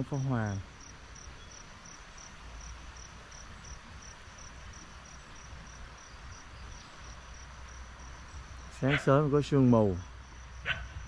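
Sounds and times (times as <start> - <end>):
background insect hiss: 0.0 - 11.0
insects chirping: 0.0 - 11.0.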